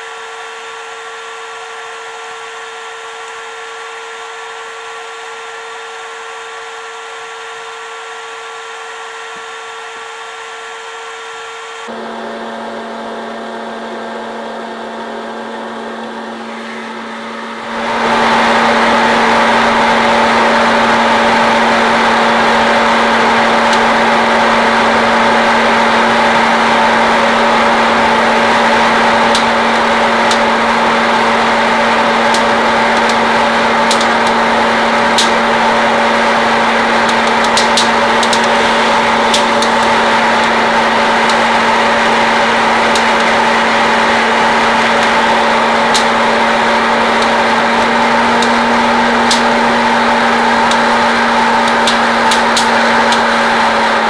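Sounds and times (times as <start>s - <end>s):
popcorn popper fan blowing: 0.0s - 54.0s.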